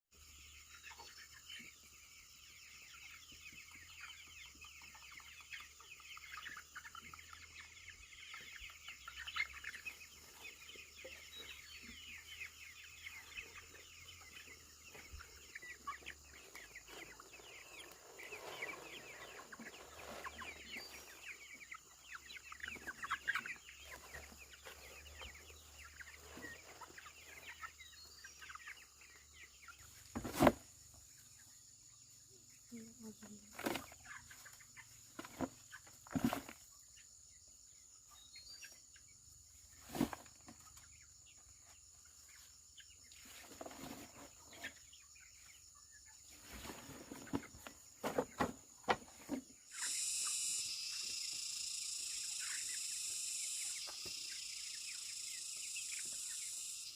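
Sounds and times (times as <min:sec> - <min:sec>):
chickens clucking: 0:00.2 - 0:56.9.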